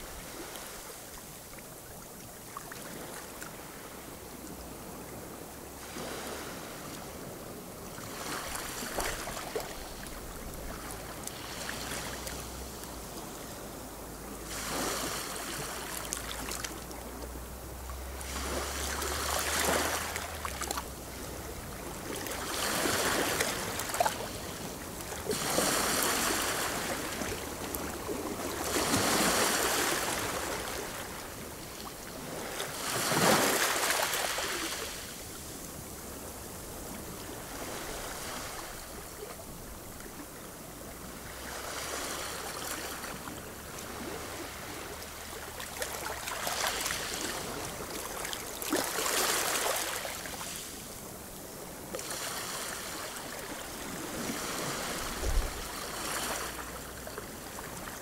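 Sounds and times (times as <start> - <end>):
waves lapping on rocky shore: 0.0 - 58.0.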